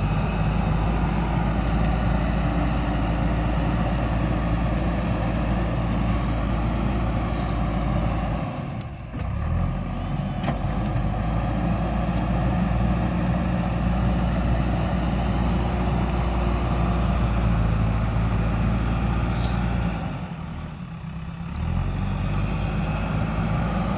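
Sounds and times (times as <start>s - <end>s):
heavy diesel engine running: 0.0s - 23.9s.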